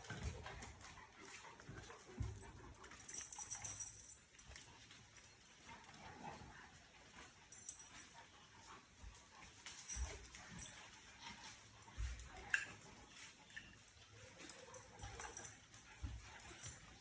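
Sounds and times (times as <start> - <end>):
dogs' claws clicking and scuffing: 0.0 - 17.0.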